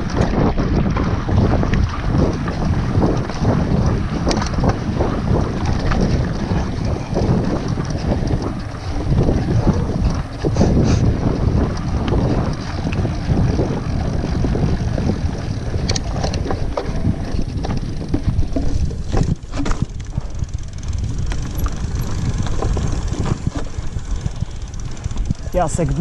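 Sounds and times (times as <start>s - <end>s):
bike clicks and rattles: 0.0s - 26.0s
bike tyres rolling on sand: 0.0s - 26.0s
wind buffeting microphone: 0.0s - 26.0s.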